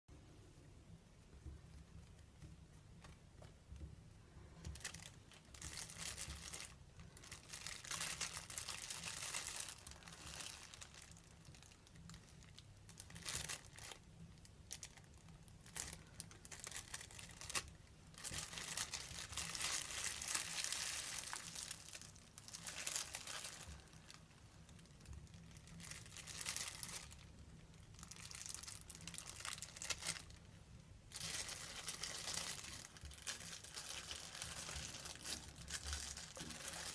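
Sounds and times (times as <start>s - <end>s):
plastic shower cap crinkling: 1.4s - 36.9s.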